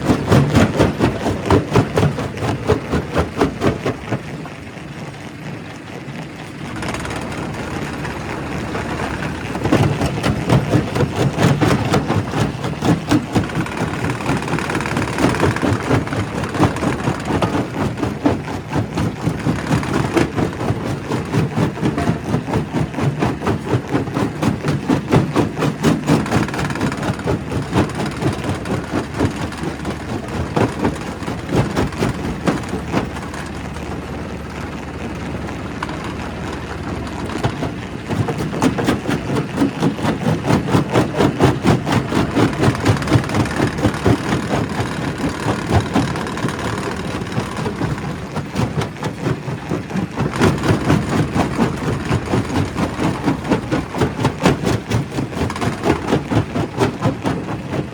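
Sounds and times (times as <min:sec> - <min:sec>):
steady machine rumble: 0:00.0 - 0:57.9
rock crusher crushing stone: 0:06.7 - 0:34.6, 0:35.2 - 0:57.9.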